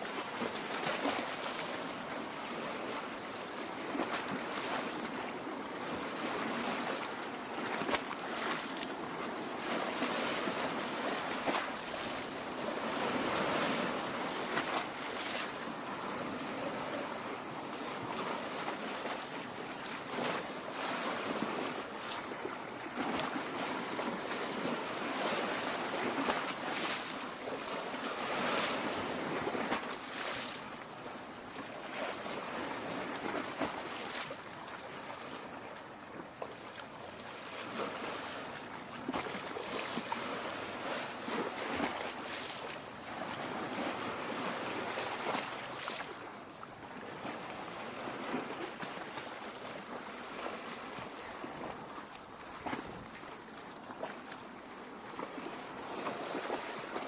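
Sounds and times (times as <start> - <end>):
lake water lapping on shore: 0.0 - 57.0.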